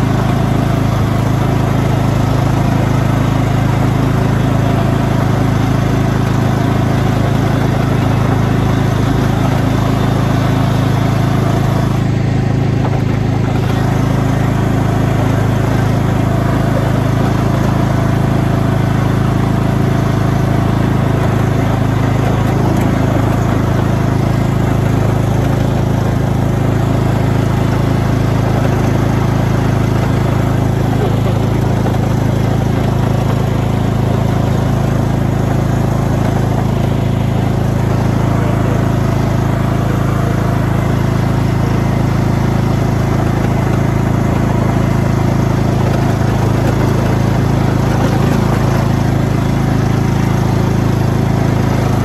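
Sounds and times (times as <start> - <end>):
riding lawn mower engine running: 0.0 - 52.0.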